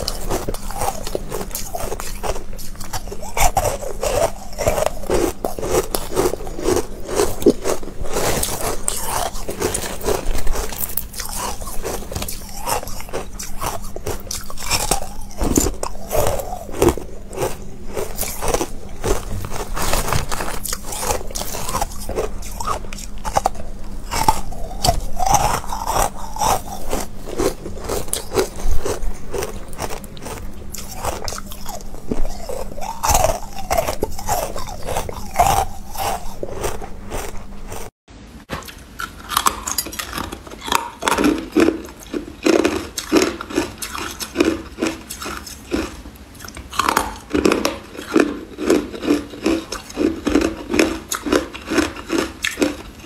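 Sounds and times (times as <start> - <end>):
ice crunching being chewed: 0.0 - 37.9, 38.6 - 53.0.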